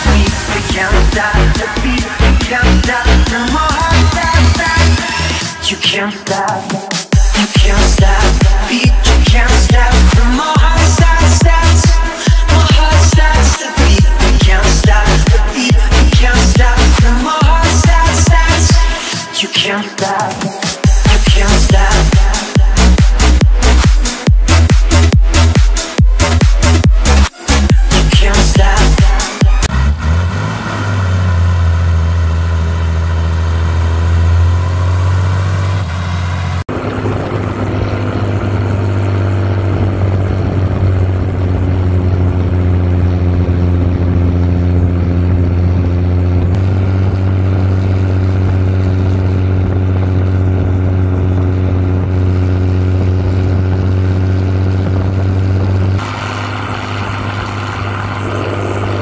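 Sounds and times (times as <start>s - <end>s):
tractor diesel engine running: 0.0s - 6.1s, 7.1s - 19.4s, 20.8s - 59.0s.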